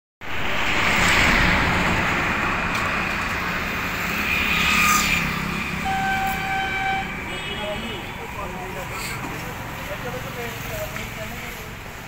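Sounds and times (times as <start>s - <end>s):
loud traffic rushing: 0.2s - 12.0s
vehicle engine hum: 0.2s - 12.0s.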